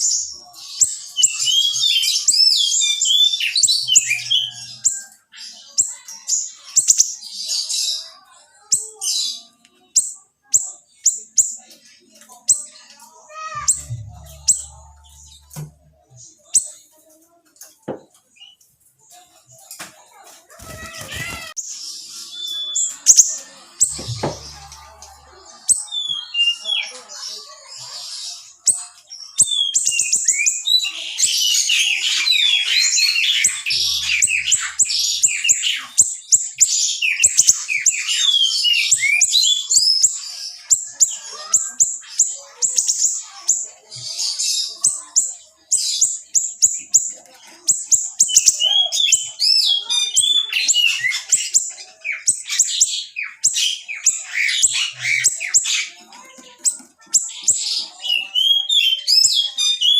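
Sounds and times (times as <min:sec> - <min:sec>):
songbird chirping and trilling: 0:00.0 - 0:59.9.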